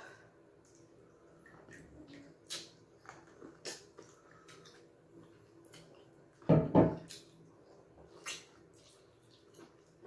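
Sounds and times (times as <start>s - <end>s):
wet eating smacks and slurps: 0.6s - 6.2s, 7.0s - 10.0s.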